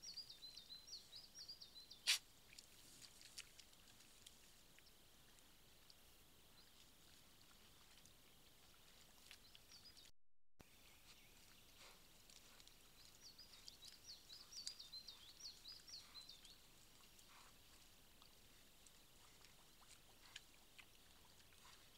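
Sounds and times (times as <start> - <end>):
small bird chirping: 0.0 - 2.2, 6.5 - 21.9
faint steady hiss: 0.0 - 9.3, 10.6 - 21.9.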